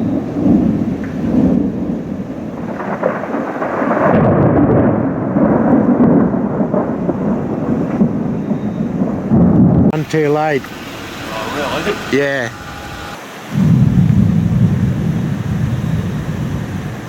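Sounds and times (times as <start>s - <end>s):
thunder rolling and rumbling: 0.0s - 10.0s, 12.8s - 17.0s
rain falling: 0.0s - 17.0s.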